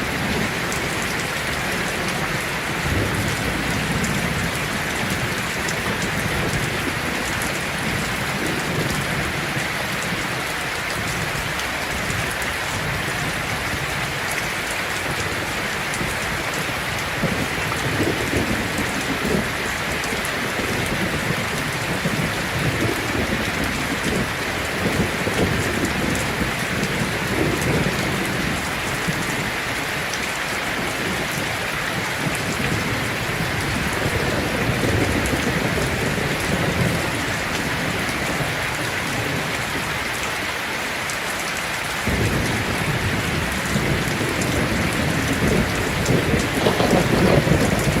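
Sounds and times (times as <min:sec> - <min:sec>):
low rolling thunder: 0:00.0 - 0:10.4, 0:15.0 - 0:29.6, 0:30.8 - 0:39.8, 0:42.0 - 0:48.0
heavy rain on a tin roof: 0:00.0 - 0:48.0.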